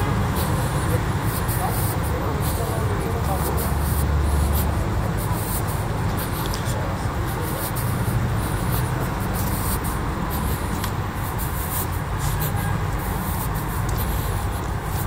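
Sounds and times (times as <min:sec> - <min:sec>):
indistinct voices: 0:00.0 - 0:15.0
low traffic rumble: 0:00.0 - 0:15.0.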